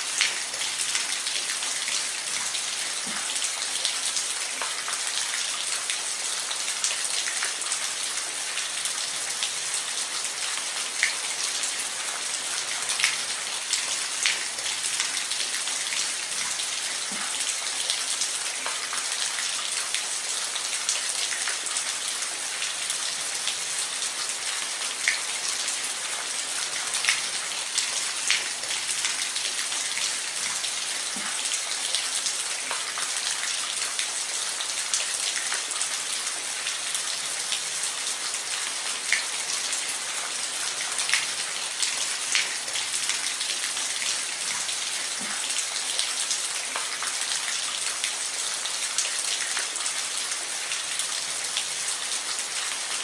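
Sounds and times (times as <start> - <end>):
rain on a roof: 0.0 - 53.0.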